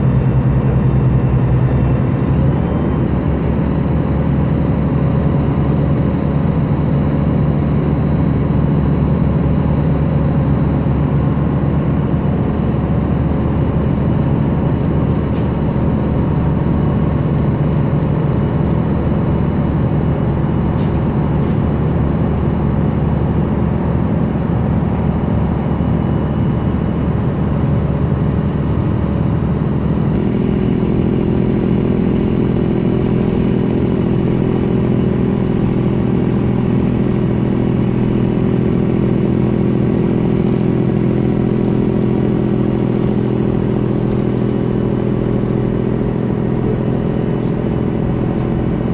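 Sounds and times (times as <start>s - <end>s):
deeper engine rumble: 0.0s - 48.9s
ferry engine drone: 0.0s - 48.9s.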